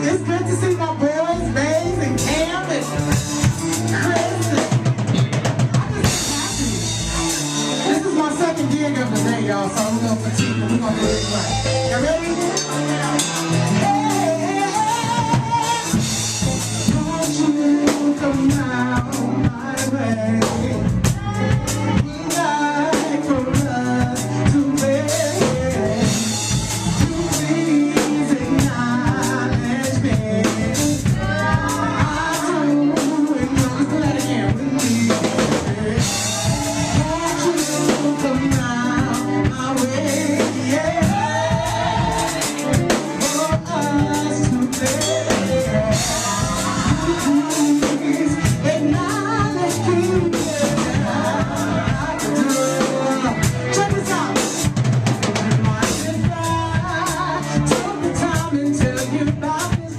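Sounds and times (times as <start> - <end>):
bass line: 0.0 - 59.9
drum kit beat: 0.0 - 59.9
person singing: 0.0 - 59.9.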